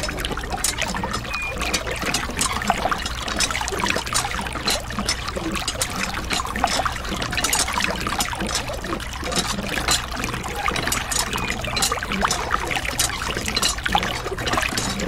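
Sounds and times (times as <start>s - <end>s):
low steady hum: 0.0s - 15.0s
water trickling and splashing: 0.0s - 15.0s.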